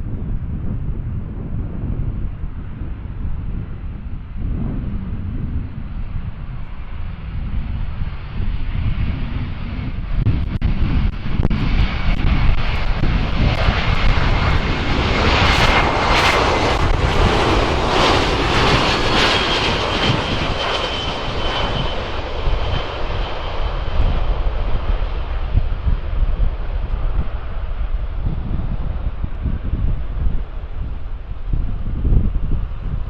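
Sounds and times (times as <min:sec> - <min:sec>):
jet engines roaring past: 0:00.0 - 0:33.0.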